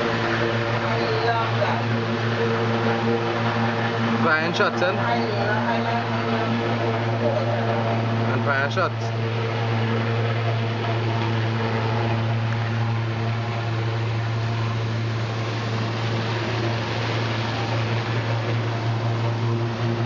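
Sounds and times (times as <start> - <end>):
helicopter running: 0.0 - 20.0.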